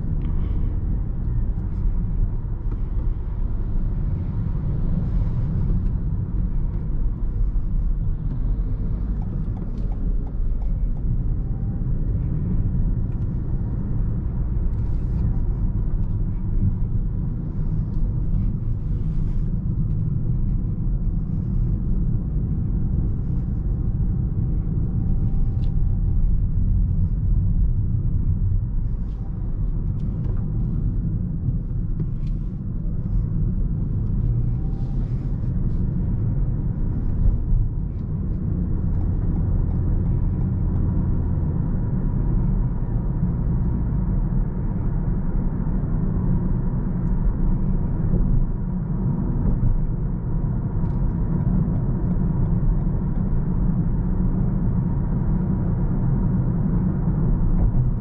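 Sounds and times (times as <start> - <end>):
road rumble and tyre noise: 0.0 - 58.0.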